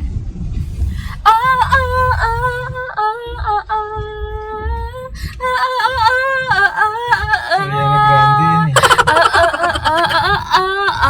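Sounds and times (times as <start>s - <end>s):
car interior rumble: 0.0s - 11.0s
woman humming a melody: 1.2s - 11.0s.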